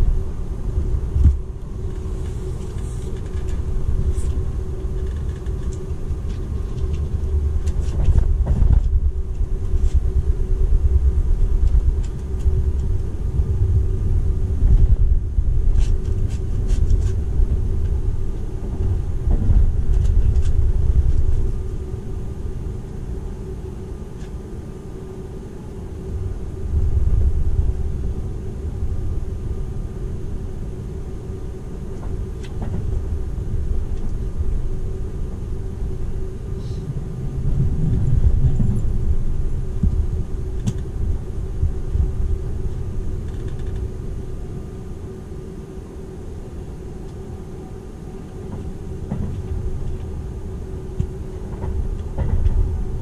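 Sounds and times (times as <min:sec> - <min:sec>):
train wheels rumbling on rails: 0:00.0 - 0:24.8, 0:25.4 - 0:53.0
faint steady hum: 0:00.0 - 0:53.0.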